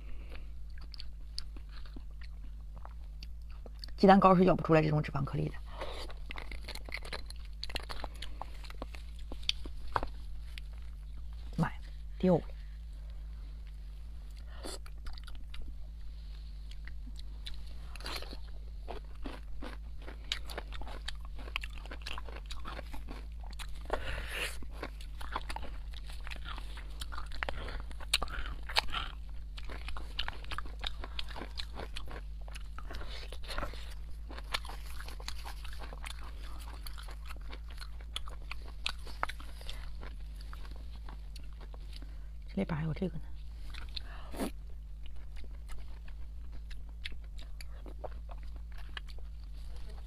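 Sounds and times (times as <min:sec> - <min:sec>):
crunchy chewing: 0:00.0 - 0:04.0, 0:05.6 - 0:12.0, 0:12.6 - 0:42.6, 0:43.4 - 0:50.0
steady low hum: 0:00.0 - 0:50.0.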